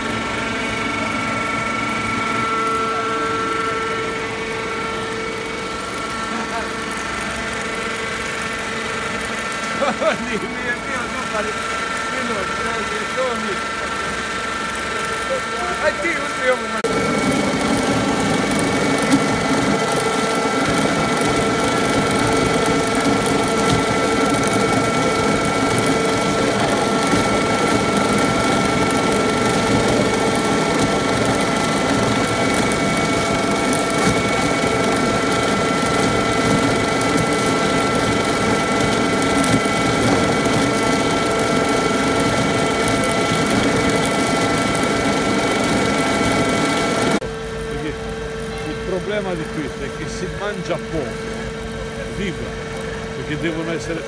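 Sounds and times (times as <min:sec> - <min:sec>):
steady whine: 0:00.0 - 0:54.0
stone-cutting chain saw running: 0:00.0 - 0:54.0.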